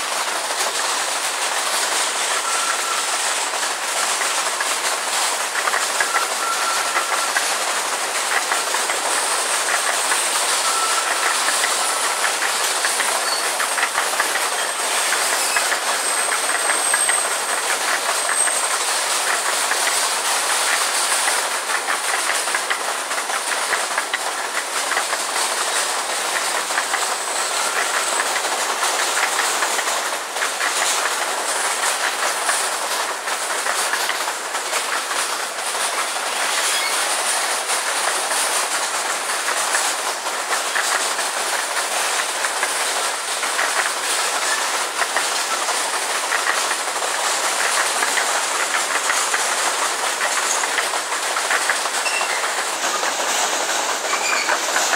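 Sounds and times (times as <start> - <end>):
train wheels rattling on rails: 0.0 - 54.9
wheels clacking at rail joints: 0.0 - 54.9.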